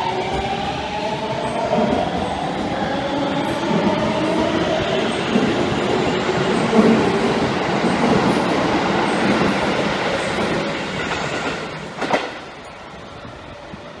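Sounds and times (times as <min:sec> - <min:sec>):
loud train clack: 0:00.0 - 0:12.9
train wheels rumbling on rails: 0:00.0 - 0:14.0.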